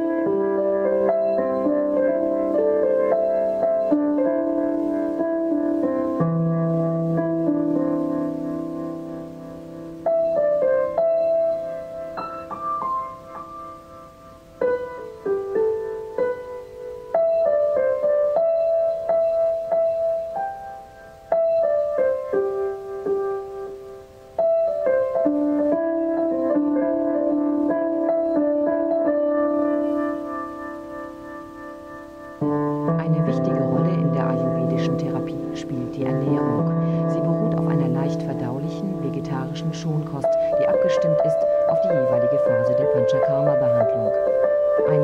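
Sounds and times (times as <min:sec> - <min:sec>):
gentle piano music: 0:00.0 - 0:45.0.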